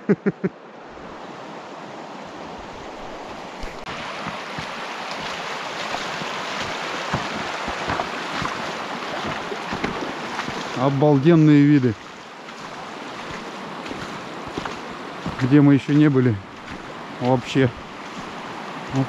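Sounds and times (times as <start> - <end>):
river water rushing over gravel: 0.6 - 19.0
small splashes and knocks: 3.0 - 19.0.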